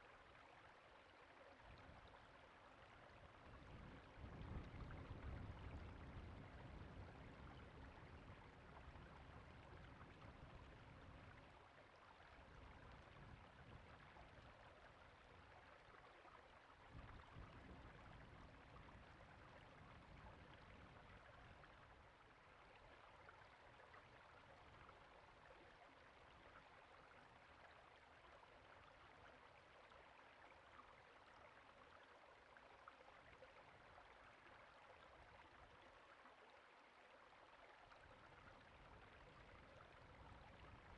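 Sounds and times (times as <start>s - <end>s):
flowing creek: 0.0s - 40.9s.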